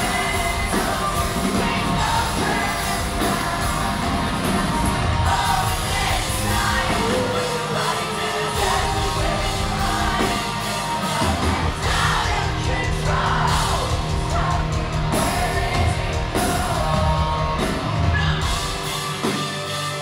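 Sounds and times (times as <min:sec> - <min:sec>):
sung and yelled vocals: 0:00.0 - 0:19.3
live rock band: 0:00.0 - 0:20.0.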